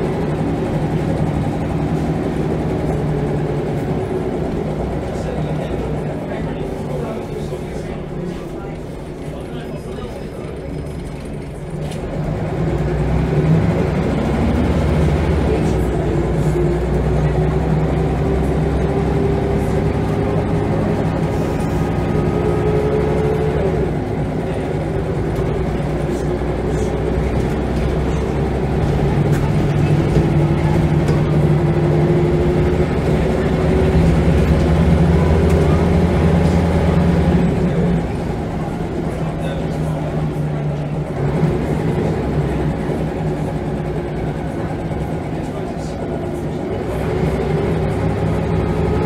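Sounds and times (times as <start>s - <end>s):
bus diesel engine accelerating: 0.0s - 49.0s.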